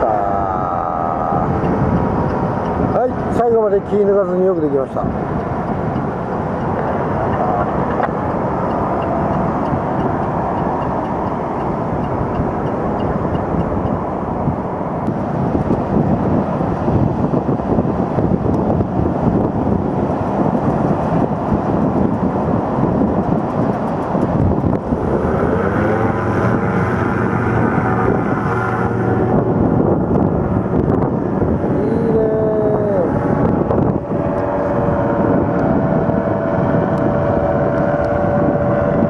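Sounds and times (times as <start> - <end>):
waves breaking on the shore: 0.0 - 39.0
wind buffeting the microphone: 0.0 - 39.0.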